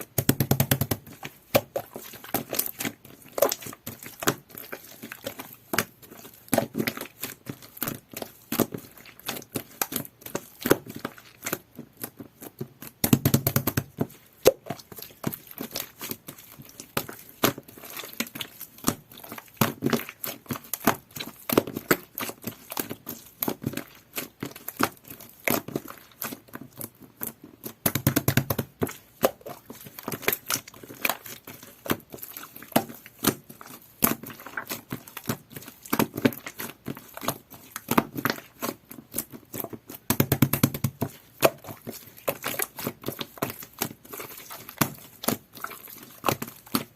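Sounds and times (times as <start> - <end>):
slime squishing and popping: 0.0 - 46.9.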